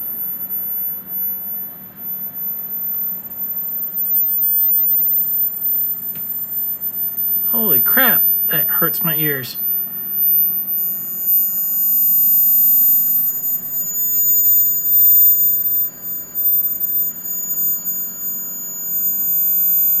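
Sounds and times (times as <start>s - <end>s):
high-pitched electronic whine: 0.0s - 20.0s
lower steady tone: 0.0s - 20.0s.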